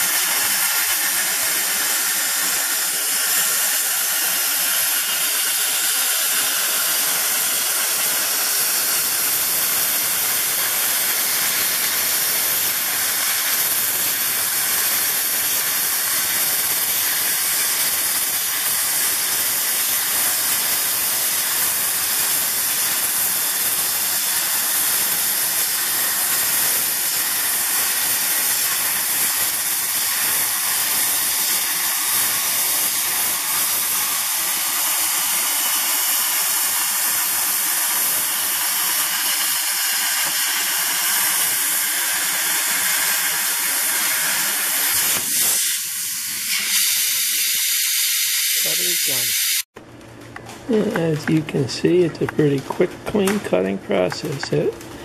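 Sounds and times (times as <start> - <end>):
plasma torch cutting steel: 0.0 - 49.7
thin air hiss: 0.0 - 49.7.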